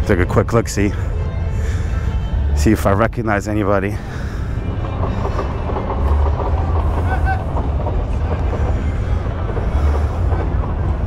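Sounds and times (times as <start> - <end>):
low crowd rumble: 0.0 - 11.0
music: 0.0 - 11.0.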